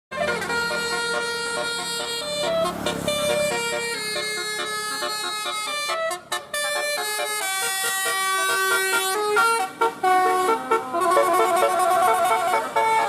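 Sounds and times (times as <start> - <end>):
bus musical horn melody: 0.1 - 13.0.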